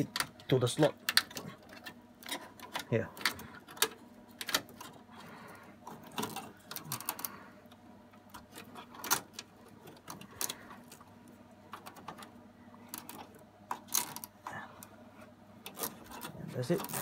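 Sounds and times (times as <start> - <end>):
cable clicking and rattling: 0.0 - 15.0, 15.6 - 17.0.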